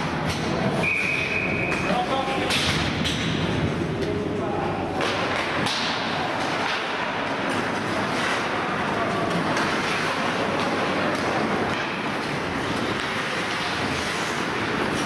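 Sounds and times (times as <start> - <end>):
rink crowd noise: 0.0 - 15.0.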